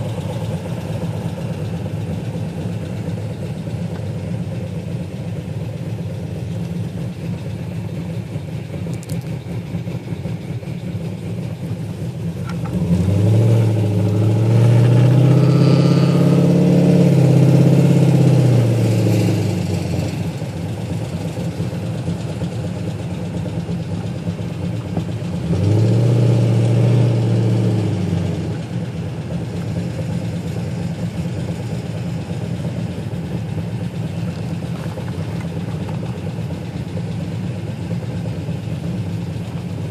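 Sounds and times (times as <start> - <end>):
engine idling and revving: 0.0 - 39.9
engine ticking: 0.0 - 39.9.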